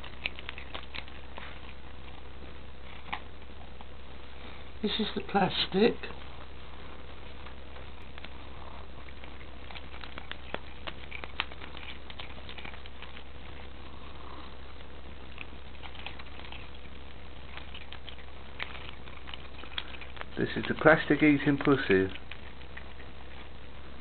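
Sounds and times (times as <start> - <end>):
cat chewing plastic: 0.0 - 4.0, 5.7 - 24.0.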